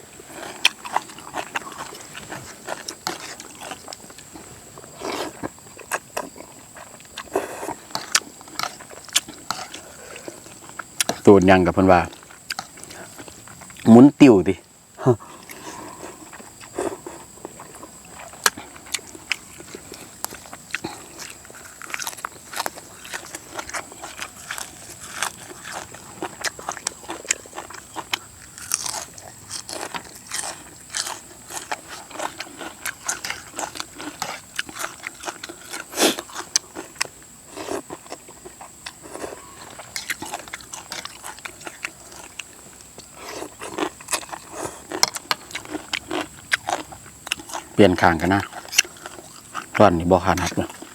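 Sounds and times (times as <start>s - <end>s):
person crunching and chewing: 0.0s - 50.9s.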